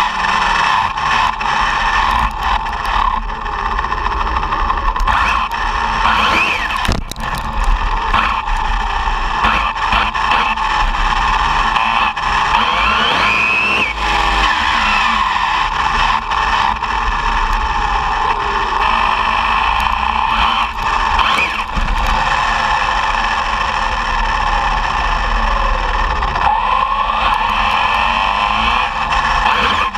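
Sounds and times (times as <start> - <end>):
electric motor whine: 0.0 - 29.9.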